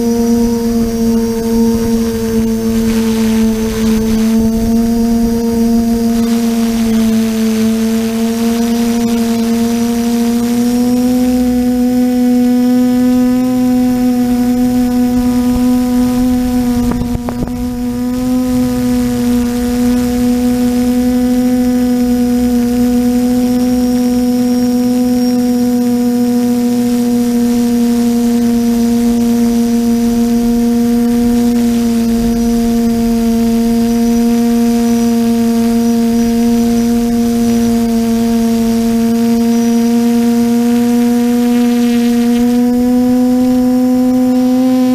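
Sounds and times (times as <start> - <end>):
drone propellers whining: 0.0 - 44.9.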